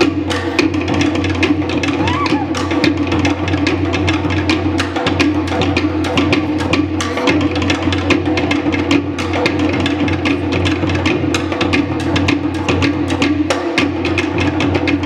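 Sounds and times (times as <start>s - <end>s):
deep skin drum beat: 0.0s - 15.0s
wooden slit drums struck rapidly: 0.0s - 15.0s.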